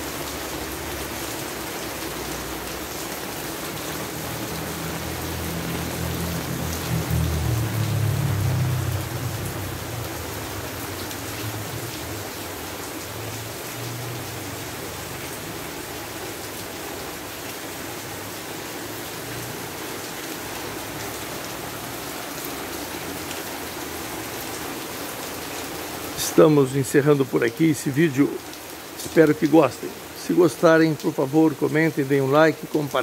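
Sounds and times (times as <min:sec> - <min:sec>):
gentle rain falling: 0:00.0 - 0:33.0.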